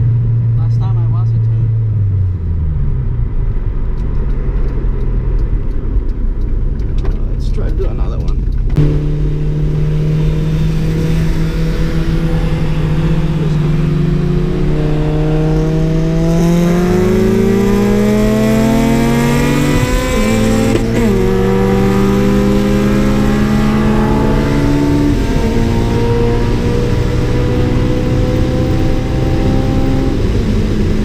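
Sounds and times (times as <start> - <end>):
sports car engine accelerating: 0.0 - 31.0.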